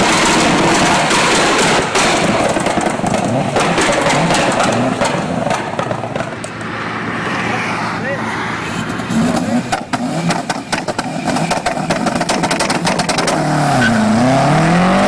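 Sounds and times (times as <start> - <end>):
exhaust crackles and pops: 0.0 - 7.4, 8.8 - 15.0
engine exhaust revving: 0.0 - 15.0.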